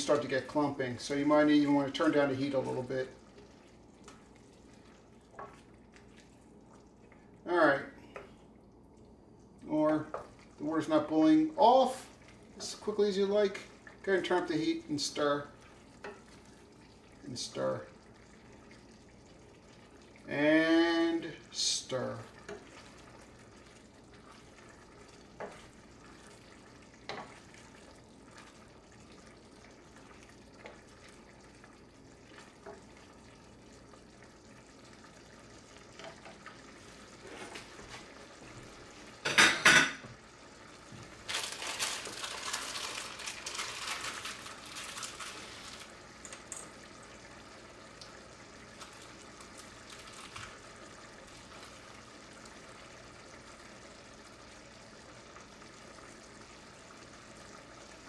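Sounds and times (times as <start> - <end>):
stew bubbling and sizzling: 0.0 - 58.0.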